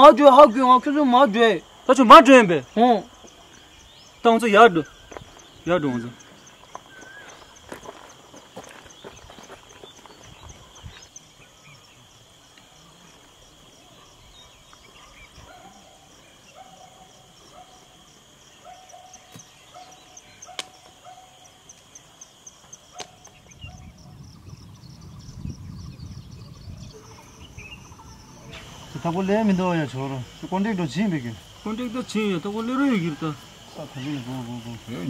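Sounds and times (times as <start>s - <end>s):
bird calling: 0.0s - 12.0s, 18.6s - 35.0s
insects trilling: 0.0s - 35.0s.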